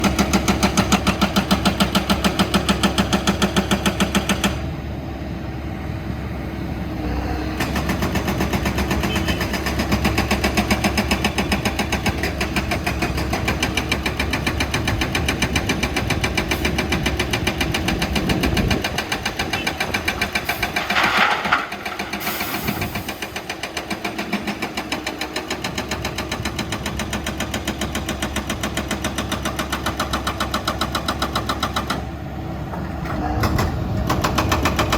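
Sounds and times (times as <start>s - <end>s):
excavator diesel engines pulsing: 0.0s - 34.9s.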